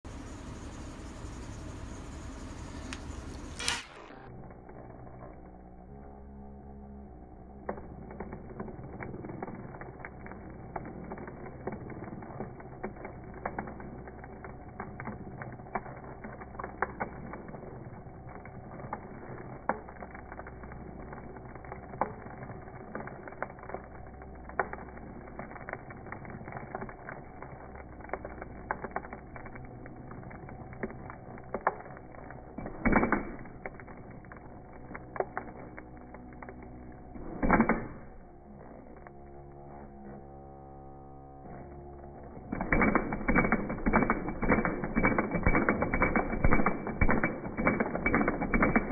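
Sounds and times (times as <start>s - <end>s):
slowed drill whirring: 0.0s - 48.9s
small clicks: 2.2s - 5.6s, 7.7s - 39.8s, 41.6s - 48.9s.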